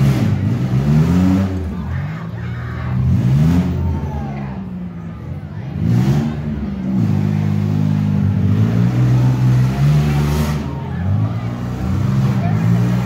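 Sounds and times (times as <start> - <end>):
minivan engines revving hard: 0.0 - 13.0.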